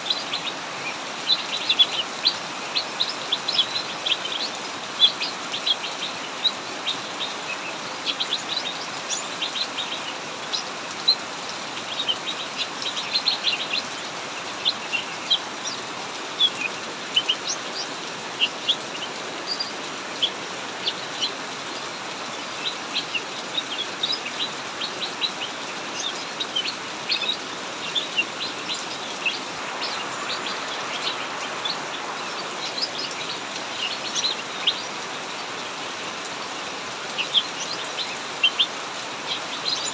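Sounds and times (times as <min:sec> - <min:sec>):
heavy rain: 0:00.0 - 0:39.9
songbirds chirping: 0:00.0 - 0:39.9.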